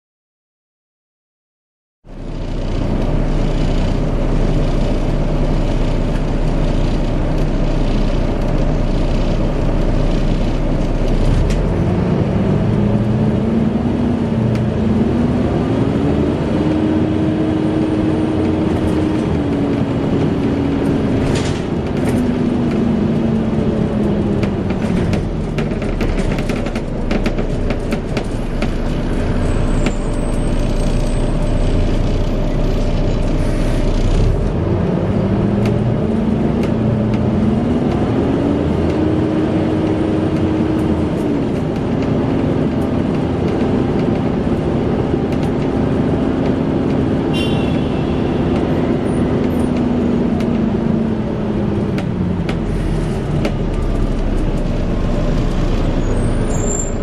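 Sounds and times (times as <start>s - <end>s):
bus engine running: 2.1s - 57.0s.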